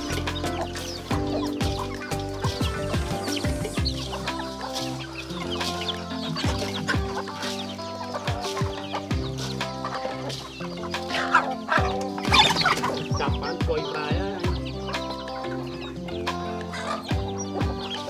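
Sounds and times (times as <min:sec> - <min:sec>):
background music with steady beat: 0:00.0 - 0:18.0
chickens clucking: 0:00.0 - 0:18.0.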